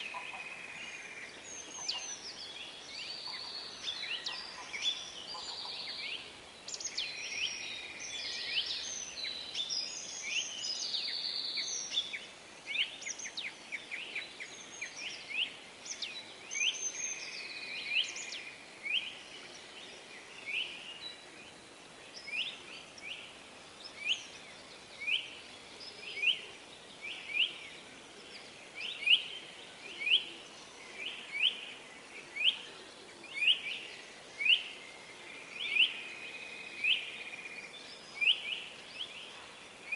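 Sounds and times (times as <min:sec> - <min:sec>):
birds chirping: 0:00.0 - 0:39.9
faint hiss: 0:00.0 - 0:39.9.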